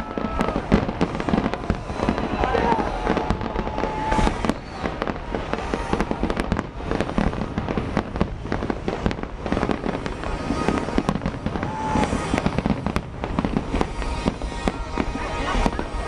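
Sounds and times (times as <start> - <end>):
firework whistle: 0.0 - 16.0
fireworks bangs and crackling: 0.0 - 16.0.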